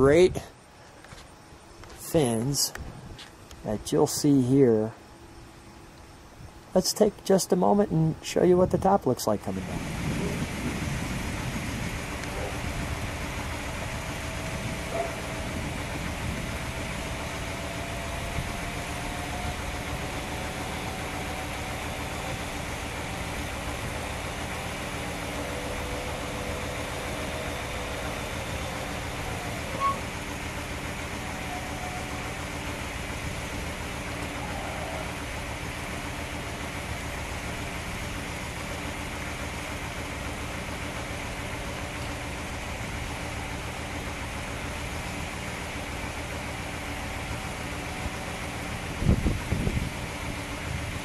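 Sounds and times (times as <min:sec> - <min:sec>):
car engine idling: 0:00.0 - 0:51.0
motor whine of folding car roof: 0:09.8 - 0:51.0.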